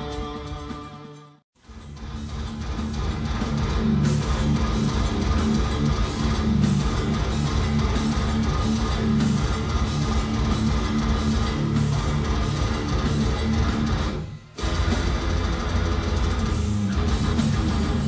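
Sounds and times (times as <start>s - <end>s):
drums: 0.0s - 18.0s
electric guitars and bass: 0.0s - 18.0s.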